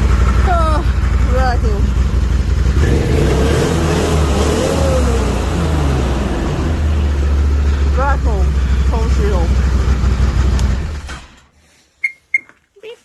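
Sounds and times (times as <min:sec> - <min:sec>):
vehicle engine droning: 0:00.0 - 0:11.4.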